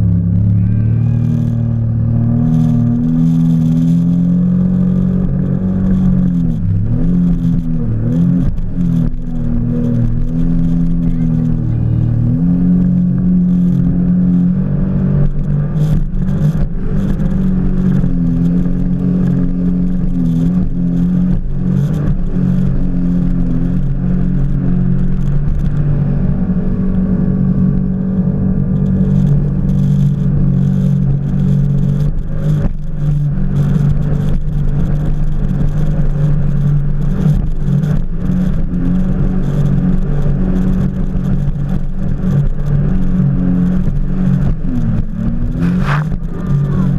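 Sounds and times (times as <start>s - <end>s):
jet ski engine droning: 0.0s - 46.9s.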